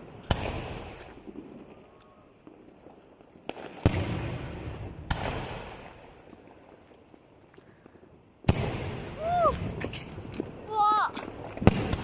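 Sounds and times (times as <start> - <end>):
rumbling crackle: 0.0 - 12.0.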